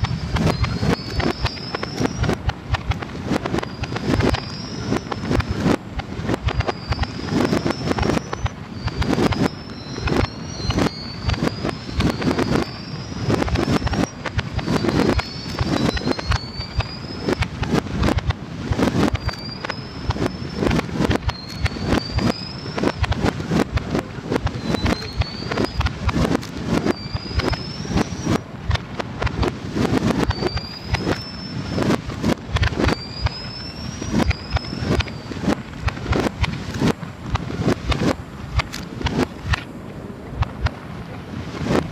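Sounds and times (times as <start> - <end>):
rising whistling tones: 0.0 - 28.5, 29.4 - 38.2
reversed firework bursts and crackle: 0.0 - 41.9.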